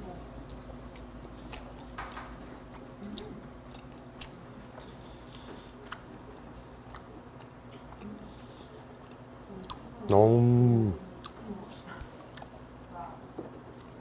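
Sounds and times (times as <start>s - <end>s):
person chewing with moist smacks: 0.1s - 14.0s.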